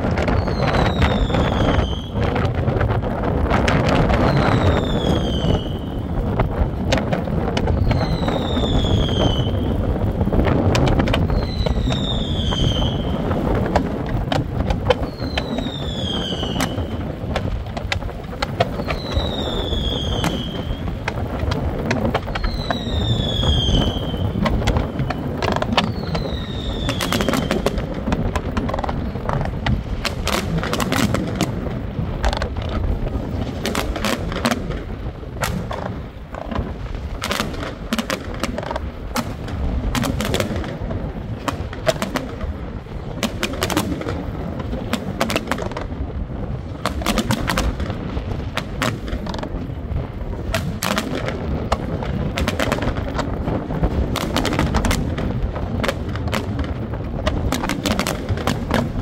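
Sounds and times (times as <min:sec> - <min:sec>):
constant low rumble: 0:00.0 - 0:59.0
fireworks bangs and crackles: 0:00.0 - 0:59.0.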